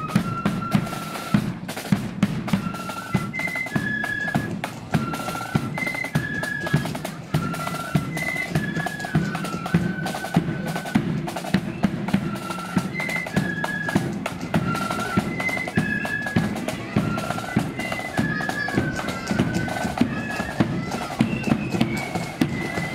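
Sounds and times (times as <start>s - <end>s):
flutes playing melody: 0.0s - 22.9s
snare drum rolls: 0.0s - 22.9s.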